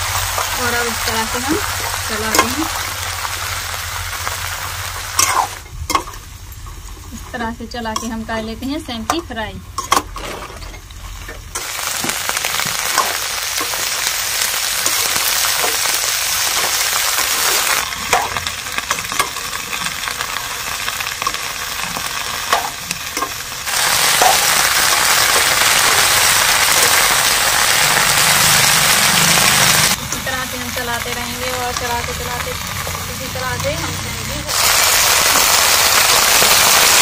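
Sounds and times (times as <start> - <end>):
bean pods sizzling in oil: 0.0 - 37.0.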